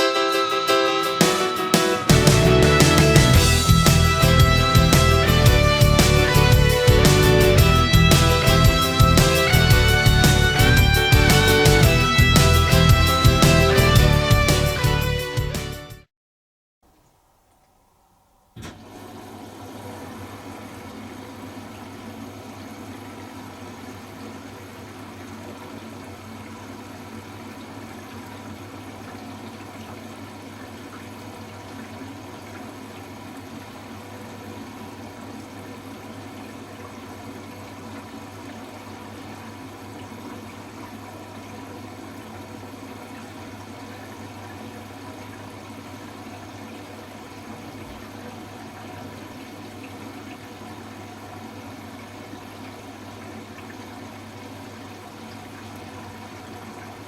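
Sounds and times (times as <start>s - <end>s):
water rushing: 0.0s - 15.2s, 18.7s - 57.0s
washing machine hum: 0.0s - 15.3s, 16.9s - 57.0s.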